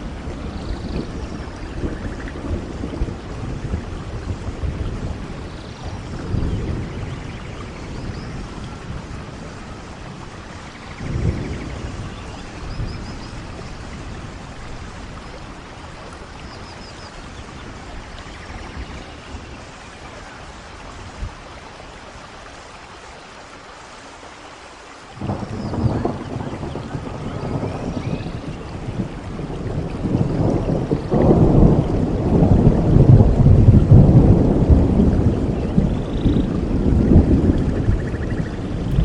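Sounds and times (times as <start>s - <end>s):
low thunder rumbling: 0.0s - 22.3s, 25.2s - 39.0s
steady rainfall: 0.0s - 39.0s.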